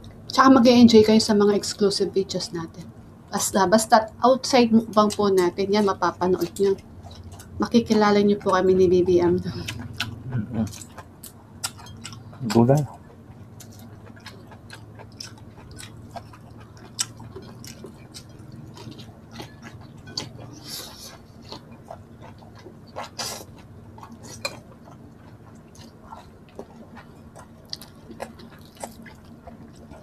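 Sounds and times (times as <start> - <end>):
wet chewing and mouth sounds: 4.8 - 30.0.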